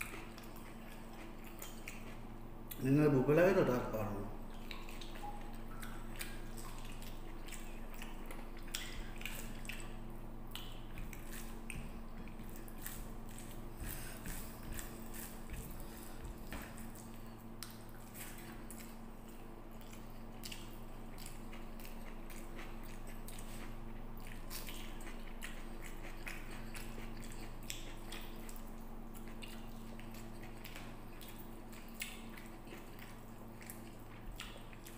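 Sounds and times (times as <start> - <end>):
chewing and lip-smacking: 0.0 - 34.9
steady low hum: 0.0 - 34.9.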